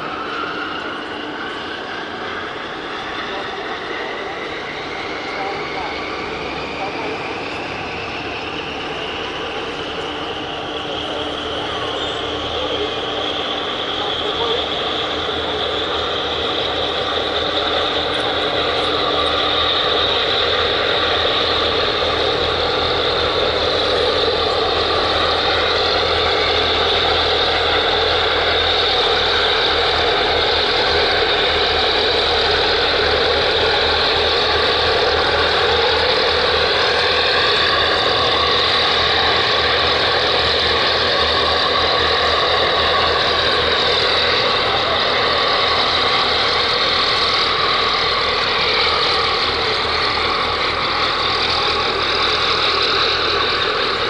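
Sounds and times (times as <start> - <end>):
ship engines and machinery running: 0.0 - 54.0.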